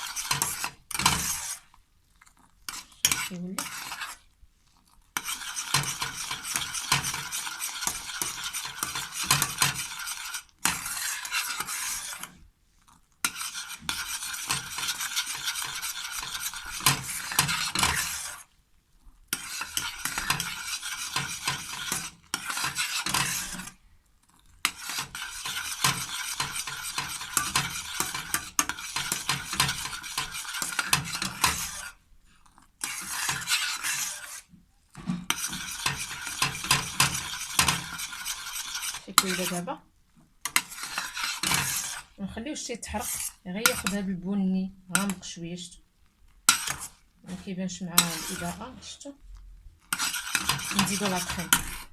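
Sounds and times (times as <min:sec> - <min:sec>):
spoon scraping a pan: 0:00.0 - 0:18.5, 0:19.3 - 0:39.8, 0:40.4 - 0:44.3, 0:44.9 - 0:45.4, 0:46.4 - 0:51.9.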